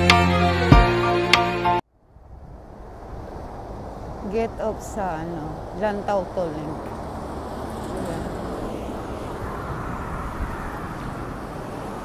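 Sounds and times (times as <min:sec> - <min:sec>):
highway traffic rumble: 0:01.6 - 0:12.0.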